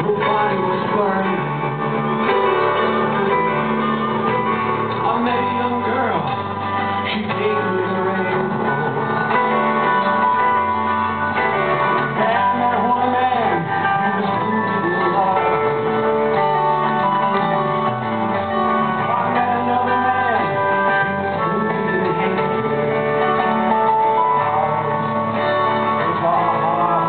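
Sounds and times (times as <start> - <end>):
lead guitar: 0.0 - 27.0
live rock band playing: 0.0 - 27.0.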